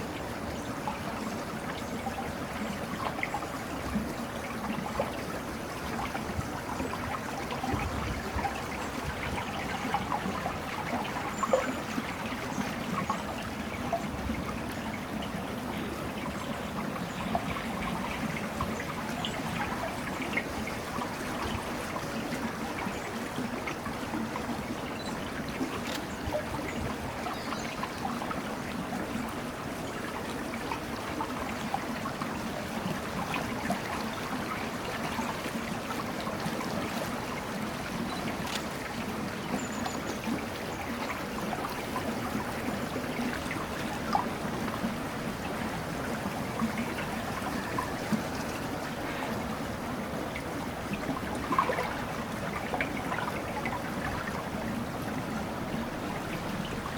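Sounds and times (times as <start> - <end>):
small water splashes: 0.0 - 56.9
water trickling and lapping: 0.0 - 56.9.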